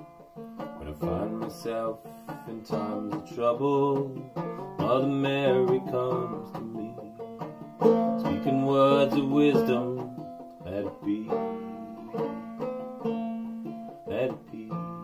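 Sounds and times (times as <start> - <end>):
banjo picking: 0.0 - 15.0.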